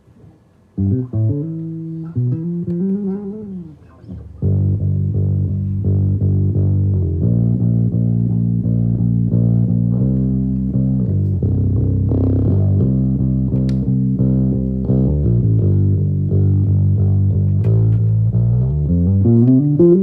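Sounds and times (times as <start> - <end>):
bass guitar playing: 0.8 - 20.0.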